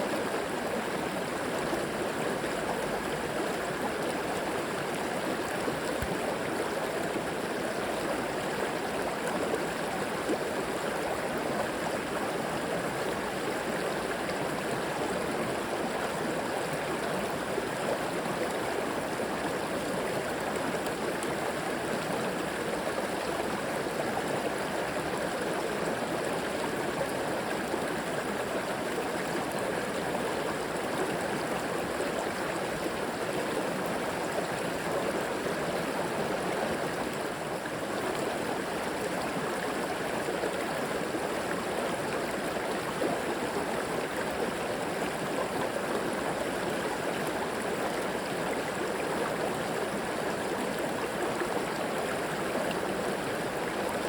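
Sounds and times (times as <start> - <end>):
river flowing over stones: 0.0 - 54.0.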